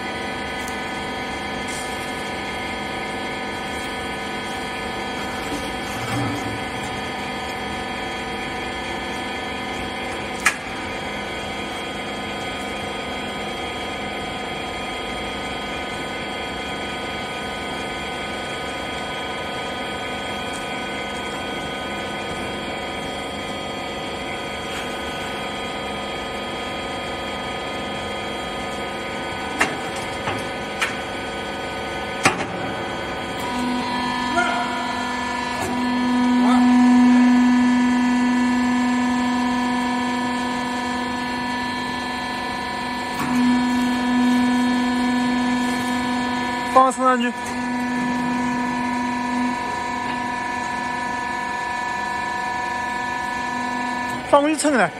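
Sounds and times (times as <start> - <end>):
hydraulic unit humming: 0.0 - 54.9.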